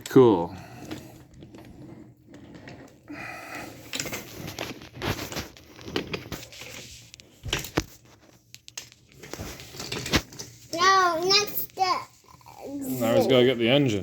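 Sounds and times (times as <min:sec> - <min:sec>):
rustling: 0:00.8 - 0:13.7.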